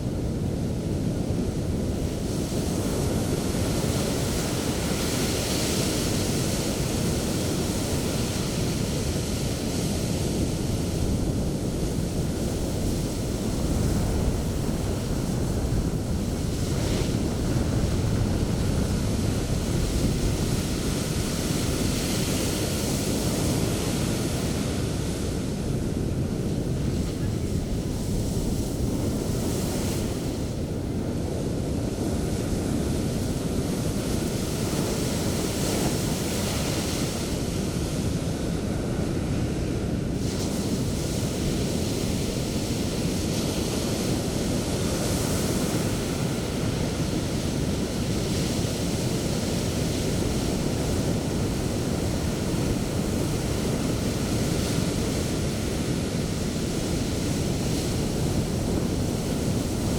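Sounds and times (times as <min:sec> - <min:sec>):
wind buffeting microphone: 0:00.0 - 0:59.9
waves breaking on shore: 0:00.1 - 0:59.9.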